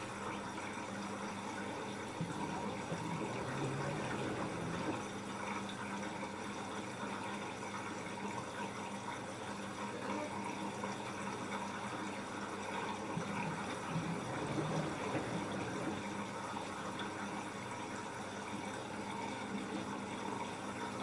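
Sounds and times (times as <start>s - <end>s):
faint steady hum: 0.0s - 21.0s
water sloshing in washing machine: 0.0s - 21.0s.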